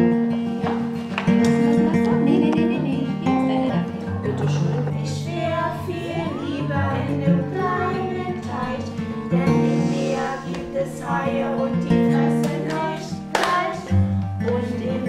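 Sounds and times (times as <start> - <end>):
acoustic guitar: 0.0 - 15.0
people singing: 1.3 - 15.0.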